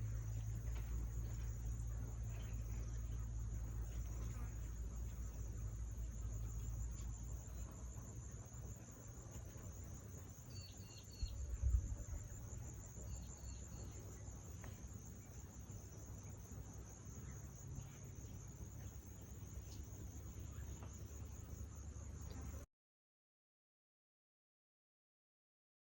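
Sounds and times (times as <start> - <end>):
insect chorus: 0.0 - 22.7.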